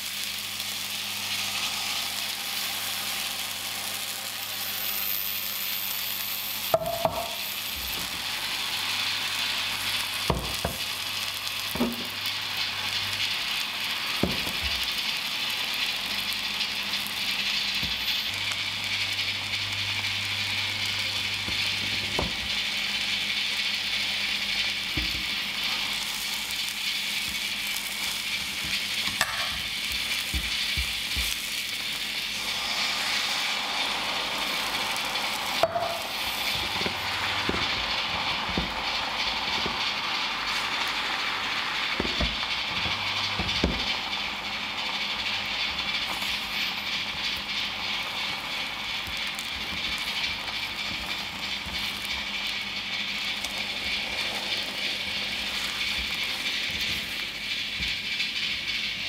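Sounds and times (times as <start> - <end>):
batter sizzling in a pan: 0.0 - 59.0.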